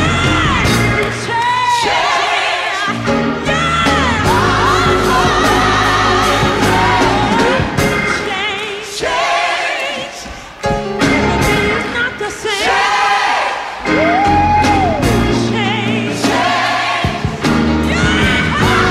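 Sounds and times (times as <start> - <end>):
backing band: 0.0 - 18.9
choir singing: 0.0 - 18.9
lead voice singing with vibrato: 0.0 - 18.9.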